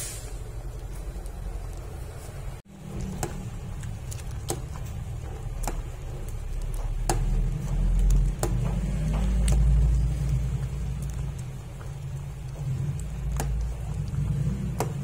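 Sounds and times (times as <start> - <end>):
pot simmering rumble: 0.0 - 15.0.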